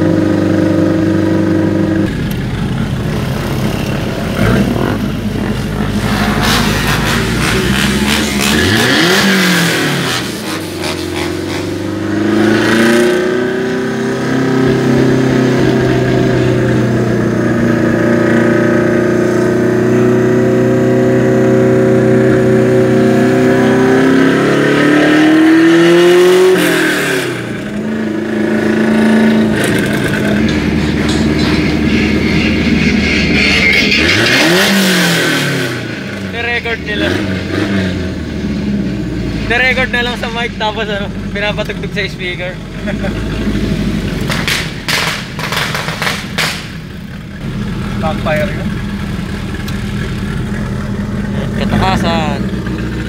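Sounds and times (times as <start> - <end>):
car engine and exhaust from inside: 0.0 - 53.0.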